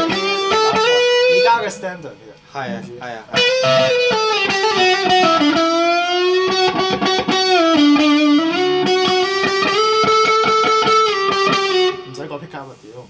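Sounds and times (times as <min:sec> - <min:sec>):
electric guitar lead line: 0:00.0 - 0:12.2.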